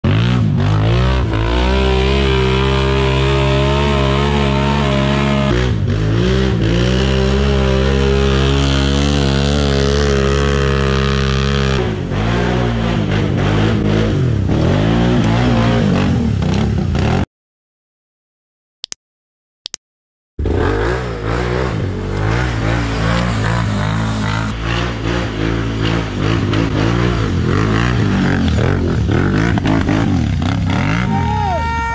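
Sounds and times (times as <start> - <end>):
atv engines revving: 0.0 - 17.2, 20.4 - 31.9.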